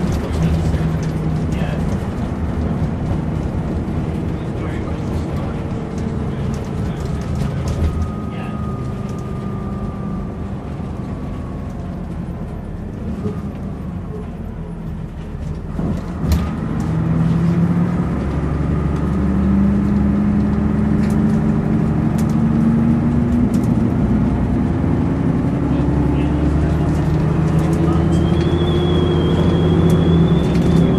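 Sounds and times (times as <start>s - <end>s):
bus engine accelerating: 0.0s - 30.9s.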